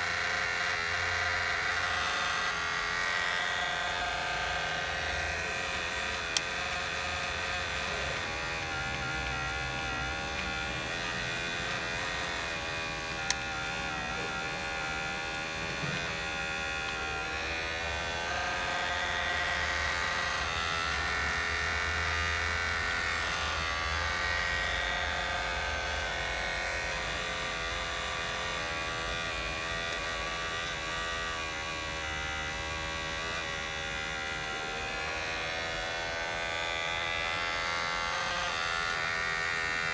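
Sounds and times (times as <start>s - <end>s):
small electric motors whining: 0.0s - 39.9s.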